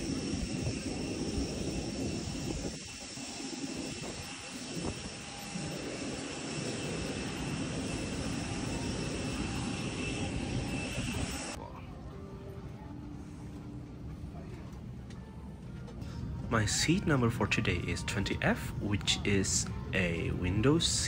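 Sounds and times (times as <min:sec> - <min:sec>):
jet engines whining and rumbling: 0:00.0 - 0:21.0.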